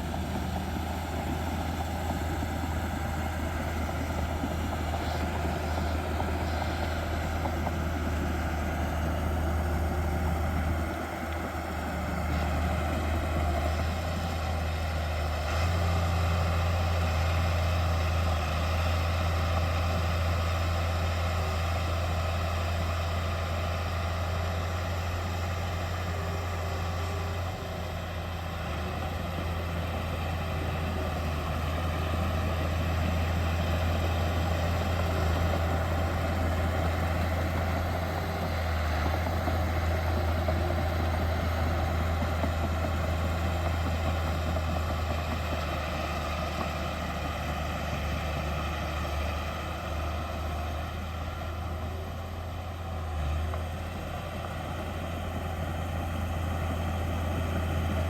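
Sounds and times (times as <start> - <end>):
heavy diesel engine hum: 0.0 - 58.0.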